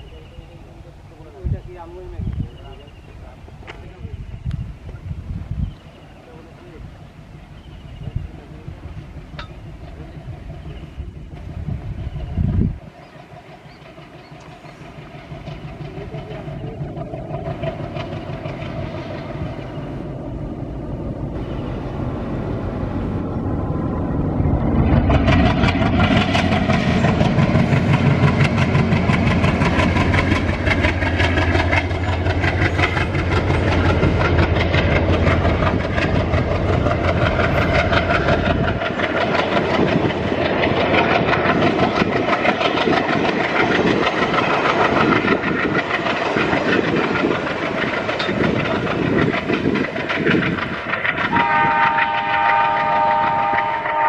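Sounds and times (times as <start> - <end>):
diesel locomotive engine drone: 0.0 - 54.0
train clattering rumble: 0.0 - 54.0.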